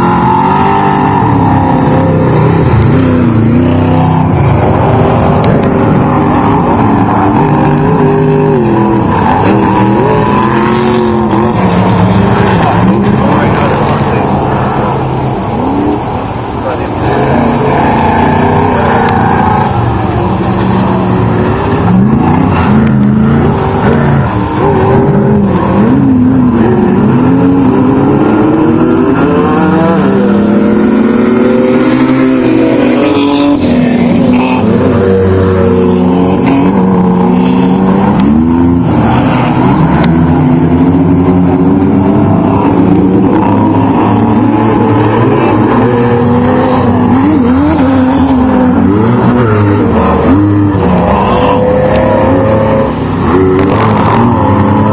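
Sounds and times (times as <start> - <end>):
race engines revving: 0.0 - 54.9.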